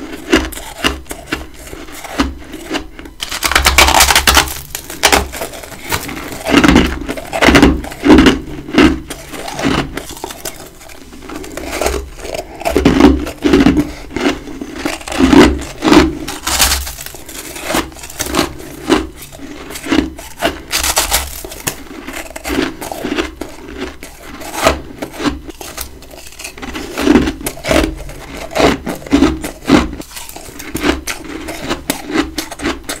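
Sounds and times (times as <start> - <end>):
frost crunching being chewed: 0.0 - 33.0.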